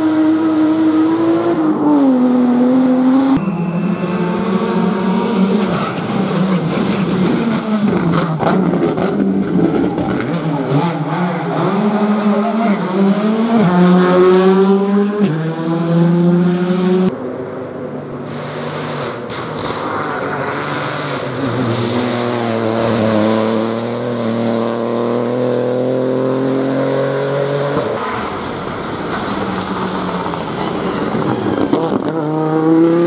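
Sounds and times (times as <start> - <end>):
rally car engine accelerating: 0.0 - 33.0
rally car engine rising in pitch: 0.0 - 33.0.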